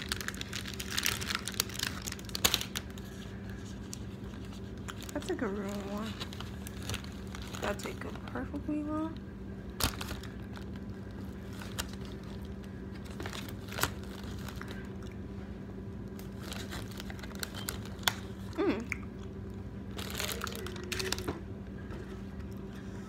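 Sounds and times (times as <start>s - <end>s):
crunching and crinkling handling noises: 0.0s - 18.9s, 19.9s - 23.0s
steady low hum: 0.0s - 23.0s.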